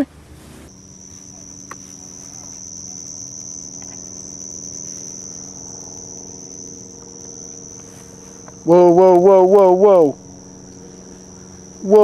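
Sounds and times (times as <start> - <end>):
crickets trilling: 0.0 - 12.0
faint low hum: 0.0 - 12.0.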